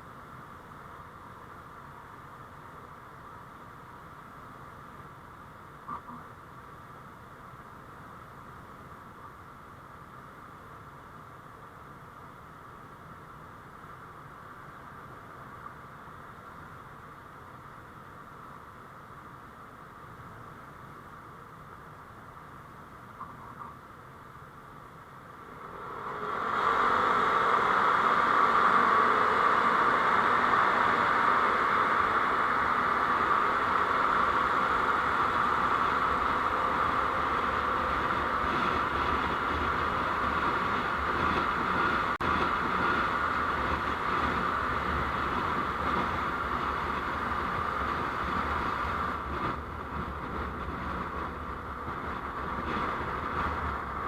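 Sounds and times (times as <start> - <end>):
vehicle road and engine noise: 0.0 - 54.0.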